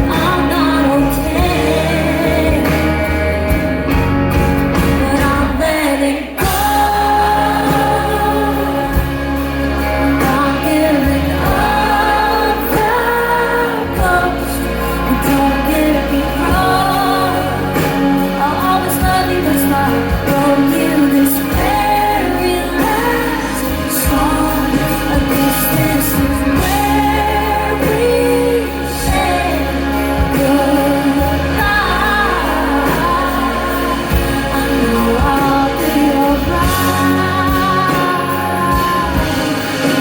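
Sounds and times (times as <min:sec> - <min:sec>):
live pop band: 0:00.0 - 0:40.0
woman singing: 0:00.0 - 0:40.0.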